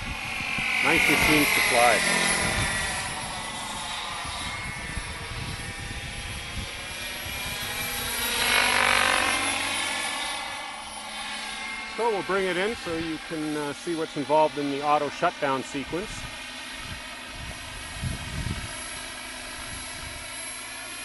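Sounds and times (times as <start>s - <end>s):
rc helicopter turbine whine: 0.0s - 21.0s.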